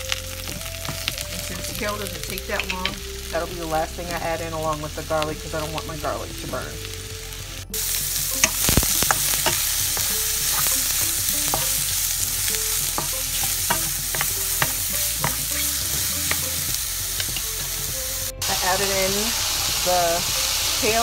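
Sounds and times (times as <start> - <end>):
mushrooms sizzling in oil: 0.0 - 21.0.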